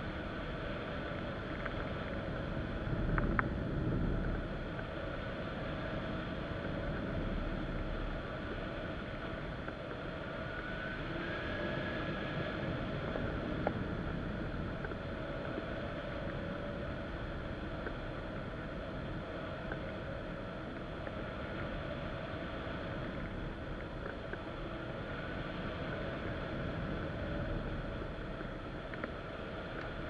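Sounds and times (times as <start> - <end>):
wind rushing over camera: 0.0 - 30.0.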